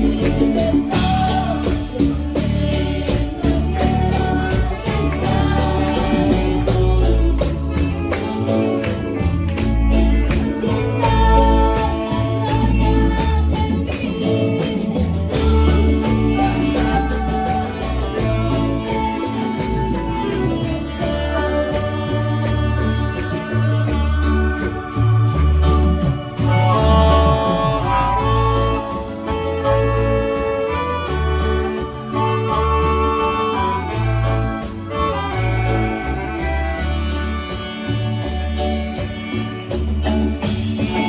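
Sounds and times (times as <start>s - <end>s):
music with beat and bass: 0.0s - 41.0s.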